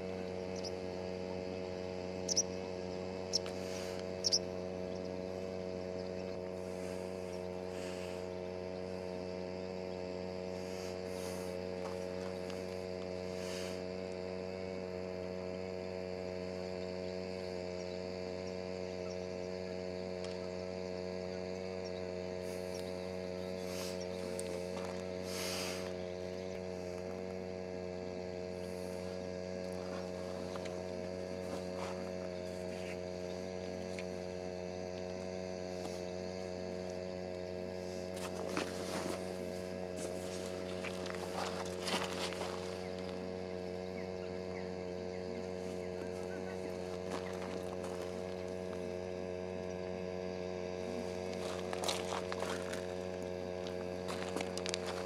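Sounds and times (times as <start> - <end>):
steady electrical hum: 0.0 - 55.0.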